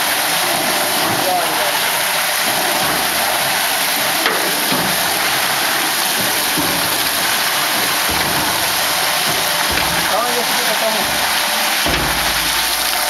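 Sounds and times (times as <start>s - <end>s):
hiss-like machinery noise: 0.0s - 13.0s.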